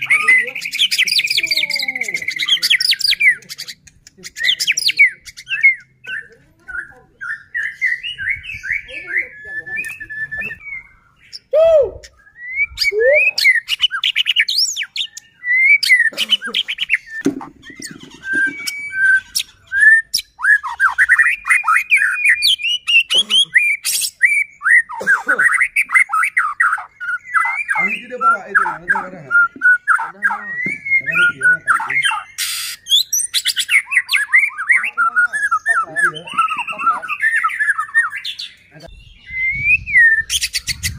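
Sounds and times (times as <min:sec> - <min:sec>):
songbird whistling and trilling: 0:00.0 - 0:40.9.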